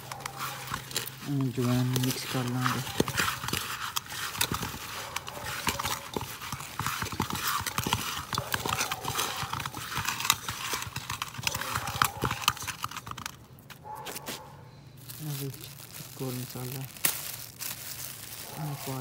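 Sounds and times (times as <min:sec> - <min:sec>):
vegetables mixed by hand in pot: 0:00.0 - 0:13.5, 0:15.0 - 0:19.0.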